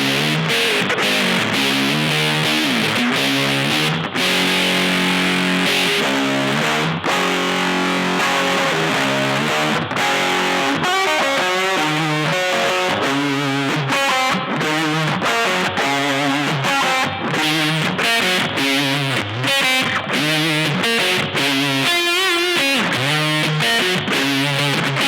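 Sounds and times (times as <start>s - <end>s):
fuzz electric guitar: 0.0s - 25.0s.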